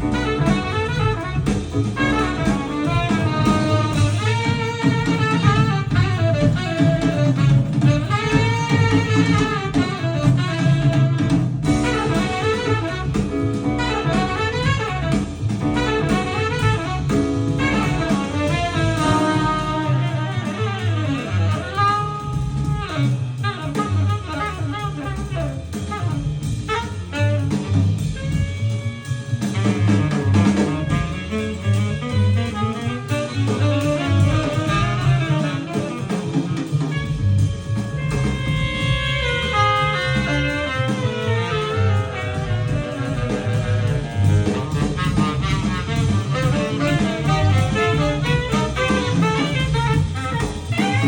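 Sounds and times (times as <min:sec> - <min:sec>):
double bass: 0:00.0 - 0:51.0
drums: 0:00.0 - 0:51.0
saxophone: 0:00.0 - 0:51.0.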